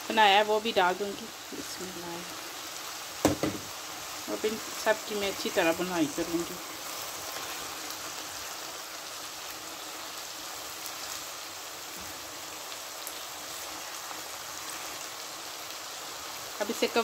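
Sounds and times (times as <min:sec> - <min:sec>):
meat sizzling in hot oil: 0:00.0 - 0:17.0.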